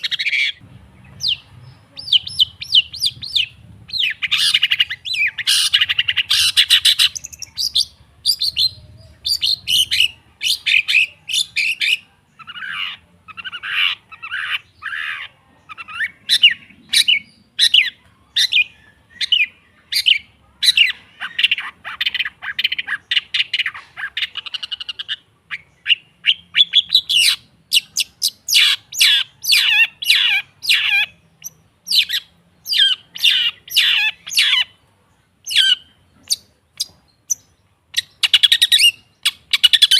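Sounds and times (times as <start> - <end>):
shrike singing rapid trills: 0.0 - 34.8.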